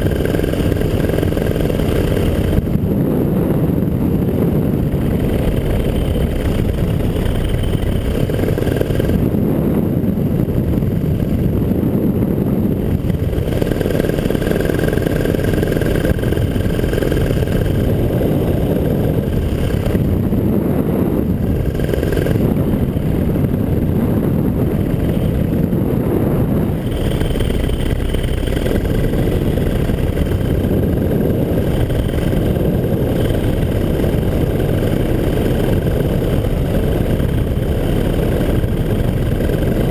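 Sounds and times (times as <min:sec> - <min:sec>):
paramotor engine droning: 0:00.0 - 0:39.9.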